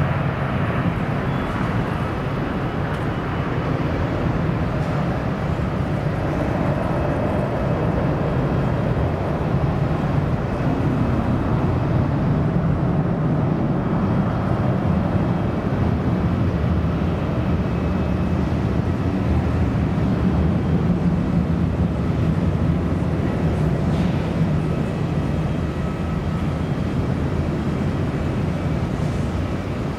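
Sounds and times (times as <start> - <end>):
jet engines deep rumble: 0.0 - 29.9.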